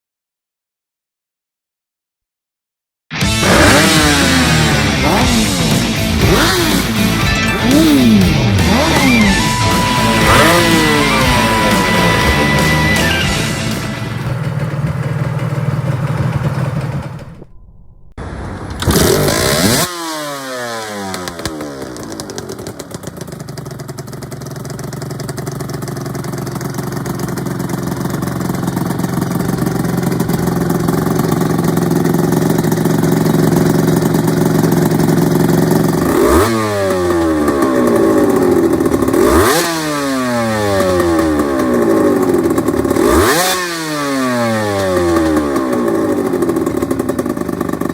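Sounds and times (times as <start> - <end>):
two-stroke motorcycle idling and revving: 3.2 - 17.4, 18.6 - 47.9.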